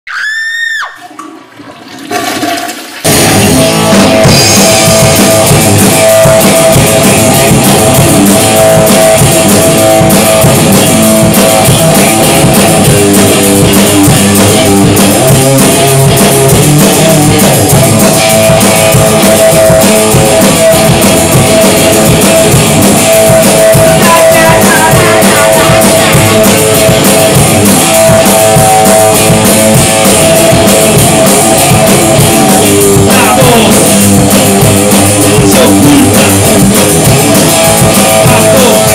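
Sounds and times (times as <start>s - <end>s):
rock band music: 3.0s - 38.9s.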